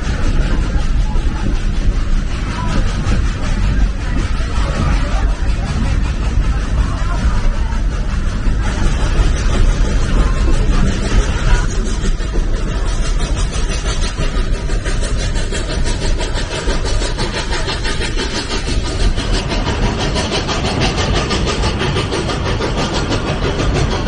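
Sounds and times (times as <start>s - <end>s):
fast regular pulsing: 0.0s - 24.0s
train wheels rumbling on rails: 0.0s - 24.0s.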